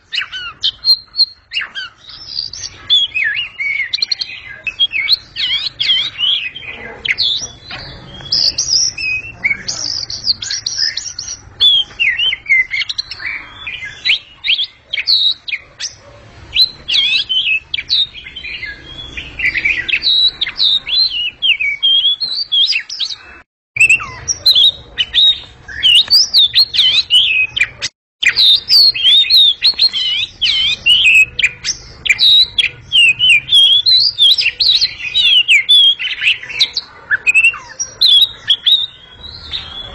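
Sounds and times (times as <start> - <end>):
bird singing ringing song: 0.0 - 39.9.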